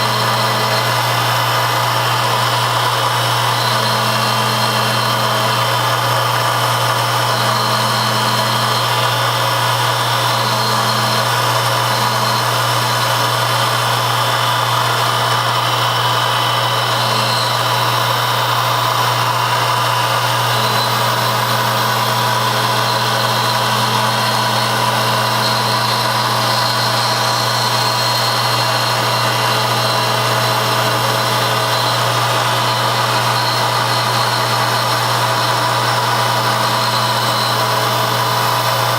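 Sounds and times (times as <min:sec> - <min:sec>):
machine tool humming and whining: 0:00.0 - 0:38.9
second machine tone: 0:00.0 - 0:38.9.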